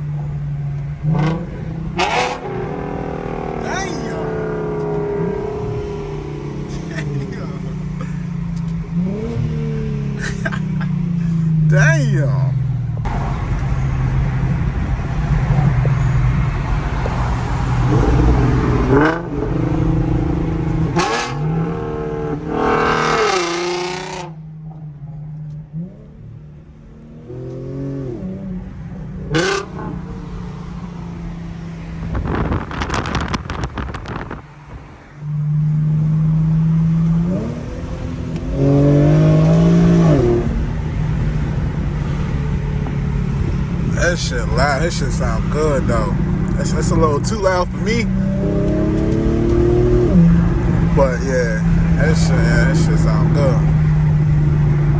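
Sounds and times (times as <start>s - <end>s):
car exhaust accelerating hard: 1.0s - 11.8s, 12.8s - 24.8s, 26.4s - 54.9s.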